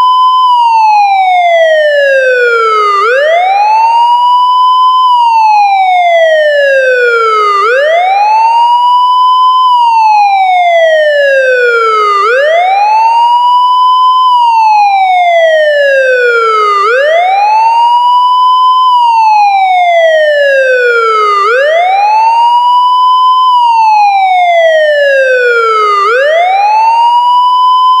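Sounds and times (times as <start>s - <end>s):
police siren wailing: 0.0s - 28.0s.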